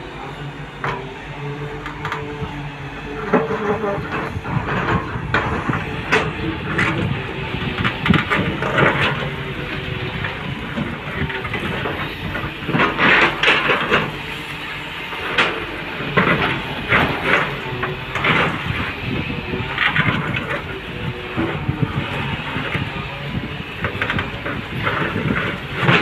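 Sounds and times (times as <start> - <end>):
excavator diesel engine running: 0.0 - 26.0
machine clatter: 3.3 - 14.3, 15.1 - 20.8, 21.4 - 26.0.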